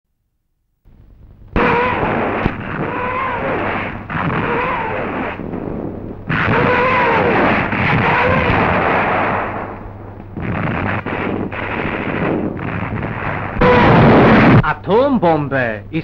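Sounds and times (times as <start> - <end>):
cartoon explosion blasts: 1.6 - 14.7.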